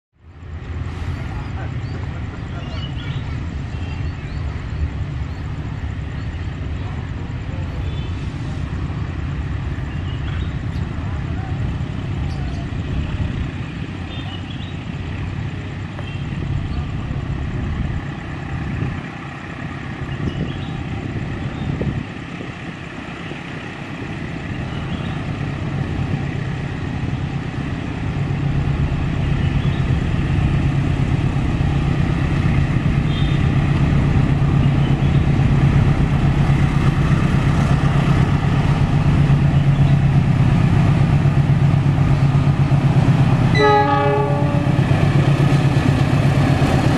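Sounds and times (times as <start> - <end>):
diesel locomotive engine humming: 0.2 - 46.9.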